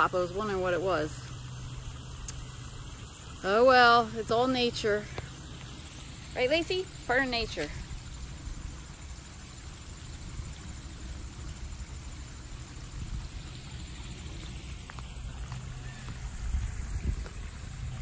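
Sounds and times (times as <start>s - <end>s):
faint hiss: 0.0s - 18.0s
steady low rumble: 1.2s - 18.0s.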